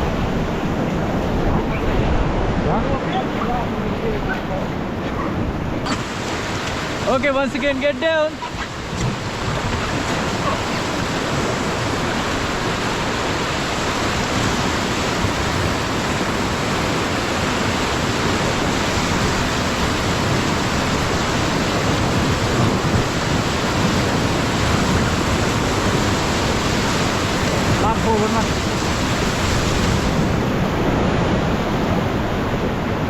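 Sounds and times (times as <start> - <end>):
whitewater roaring: 0.0 - 33.0.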